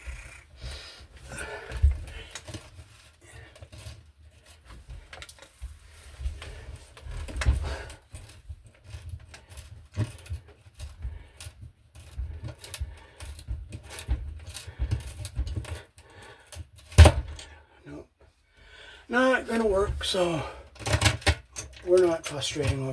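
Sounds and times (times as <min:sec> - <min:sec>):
tools knocking and rattling: 0:01.4 - 0:17.6, 0:19.5 - 0:22.9.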